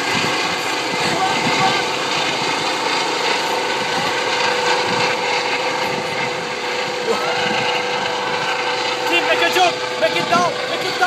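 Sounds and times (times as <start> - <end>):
model helicopter whine: 0.0 - 11.0.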